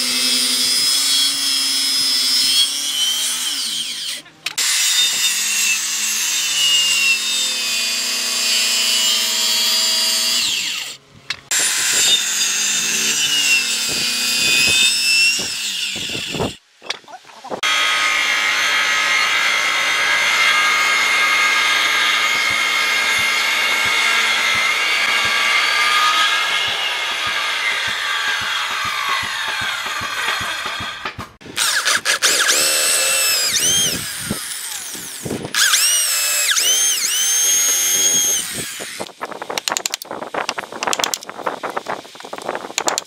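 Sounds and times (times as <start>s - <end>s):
circular saw cutting log: 0.0s - 16.6s, 17.6s - 39.2s.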